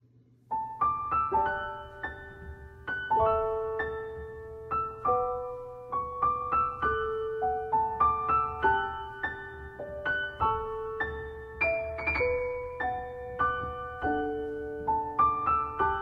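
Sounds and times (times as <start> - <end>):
gentle piano music: 0.5 - 16.0.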